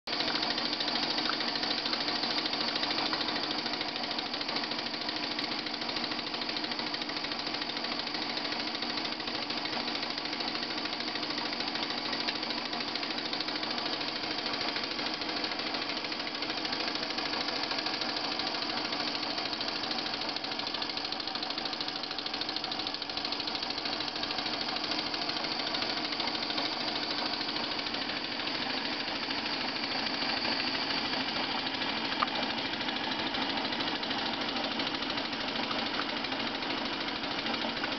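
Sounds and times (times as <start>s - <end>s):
model steam engine running: 0.1s - 37.9s.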